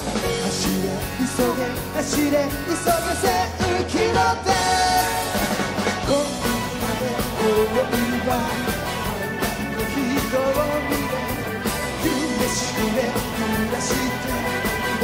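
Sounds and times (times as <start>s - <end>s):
live pop-rock band playing: 0.0s - 15.0s
man singing into microphone: 0.4s - 5.4s, 6.0s - 15.0s.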